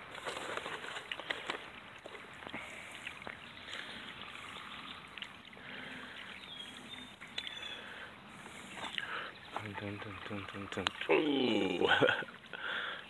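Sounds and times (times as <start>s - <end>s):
shallow water running: 0.0s - 13.0s.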